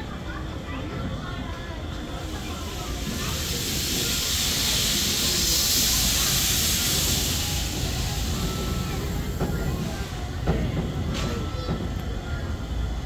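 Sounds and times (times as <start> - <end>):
steam locomotive venting steam: 1.9 - 13.0.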